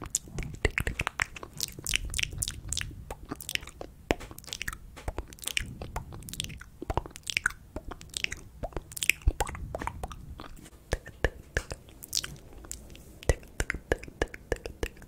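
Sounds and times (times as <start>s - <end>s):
wet mouth clicks and smacks: 0.0s - 15.0s.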